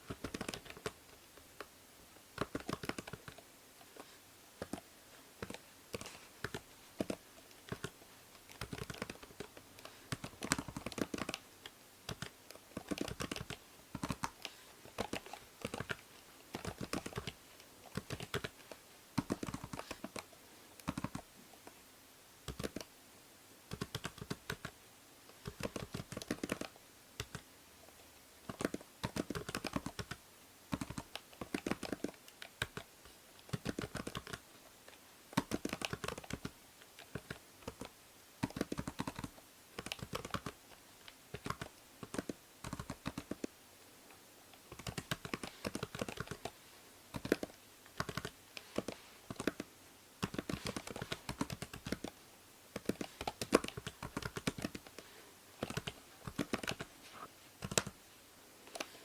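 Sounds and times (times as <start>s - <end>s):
faint microphone hiss: 0.0s - 59.0s.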